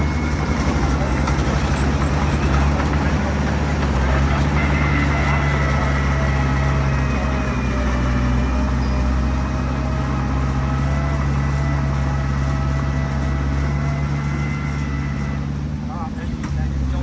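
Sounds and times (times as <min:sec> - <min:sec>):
heavy diesel engine drone: 0:00.0 - 0:17.0.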